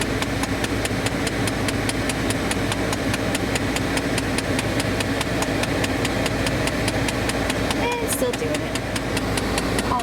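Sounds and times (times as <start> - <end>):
car engine idling: 0.0 - 10.0
rapid actuator clicking: 0.0 - 10.0.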